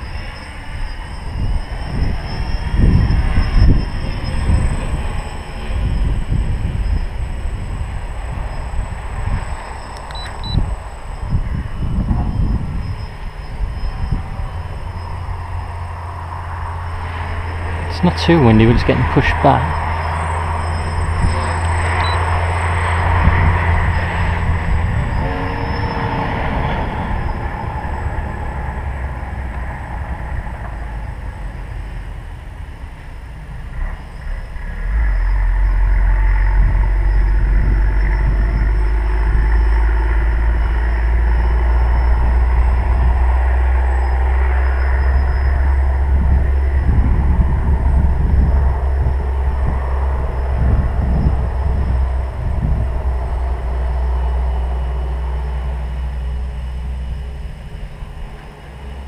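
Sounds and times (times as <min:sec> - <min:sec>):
drone motors whining: 0:00.0 - 0:59.0
wind buffeting microphone: 0:00.0 - 0:59.0.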